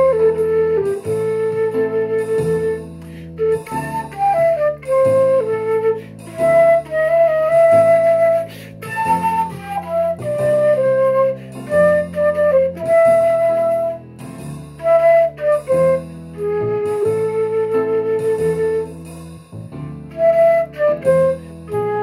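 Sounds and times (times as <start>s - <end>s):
flute melody: 0.0s - 22.0s.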